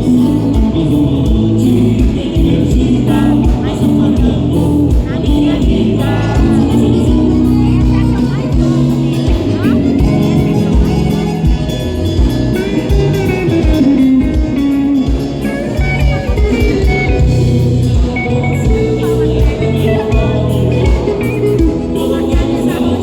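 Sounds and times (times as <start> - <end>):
band playing guitar melody: 0.0 - 23.0.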